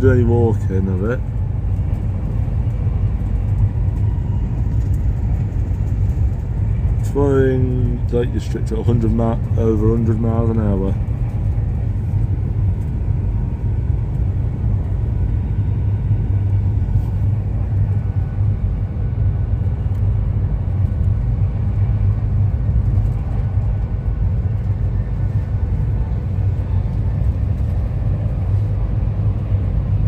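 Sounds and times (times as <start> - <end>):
train interior rumble: 0.0 - 30.0.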